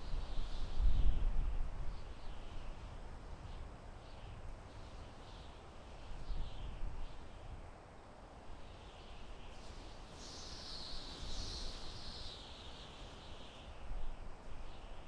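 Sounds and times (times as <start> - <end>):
wind gusting through forest: 0.0 - 15.0.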